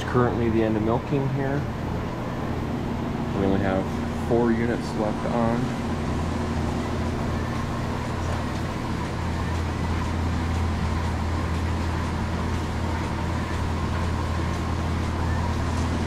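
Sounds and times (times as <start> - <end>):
vacuum pump droning: 0.0 - 16.0.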